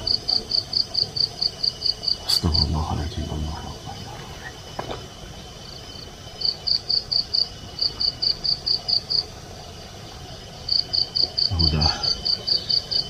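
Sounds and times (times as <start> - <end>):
faint high whine: 0.0 - 13.0
insect chirping: 0.0 - 13.0.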